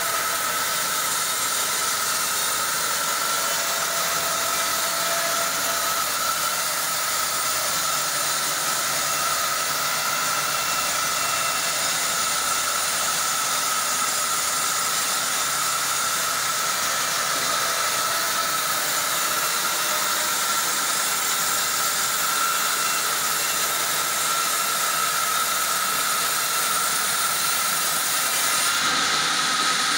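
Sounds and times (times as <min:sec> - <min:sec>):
band saw cutting log: 0:00.0 - 0:29.9.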